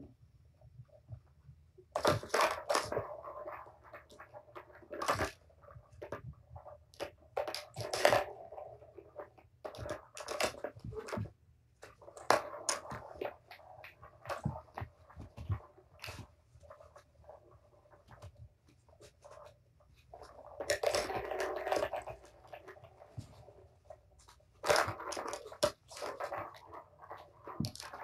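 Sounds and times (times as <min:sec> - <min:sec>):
paws batting plastic toy: 0:02.0 - 0:28.0.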